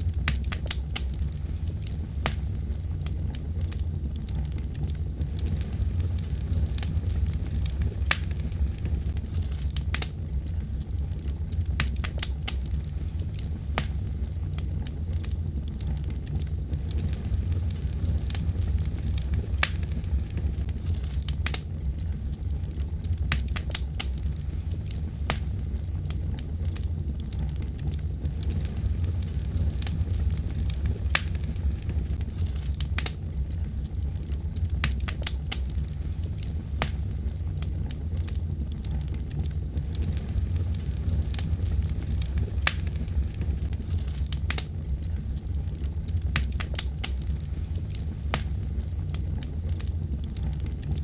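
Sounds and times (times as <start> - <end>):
fire crackling and popping: 0.0 - 51.0
low rumble of flames: 0.0 - 51.0.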